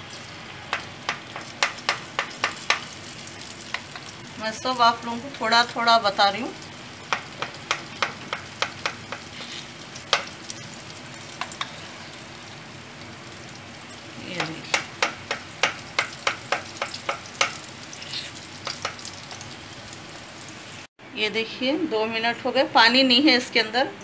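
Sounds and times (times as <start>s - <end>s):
deep-frying sizzle: 0.0s - 20.9s.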